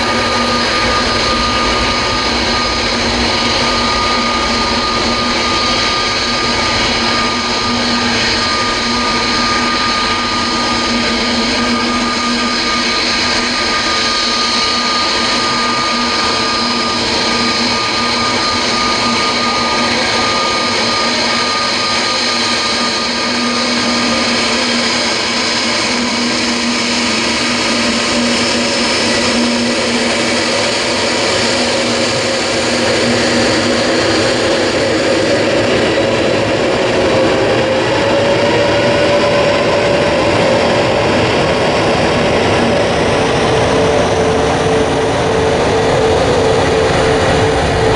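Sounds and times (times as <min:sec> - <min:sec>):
jet engine whine: 0:00.0 - 0:47.9
rush of engine noise: 0:00.0 - 0:47.9.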